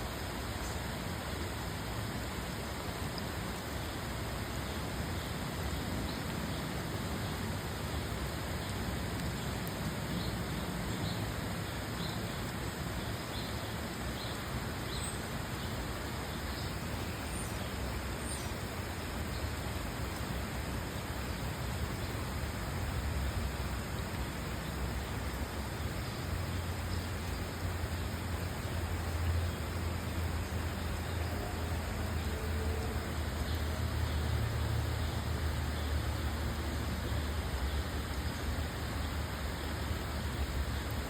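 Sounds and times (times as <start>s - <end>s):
steady rain hissing: 0.0s - 41.0s.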